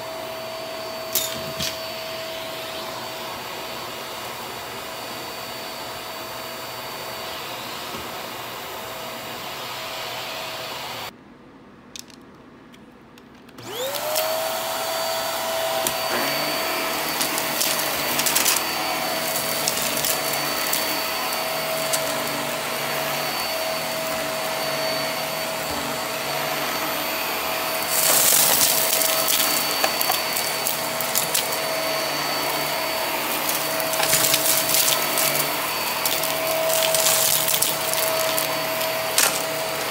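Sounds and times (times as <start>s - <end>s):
vacuum cleaner running: 0.0s - 11.2s, 13.6s - 39.9s.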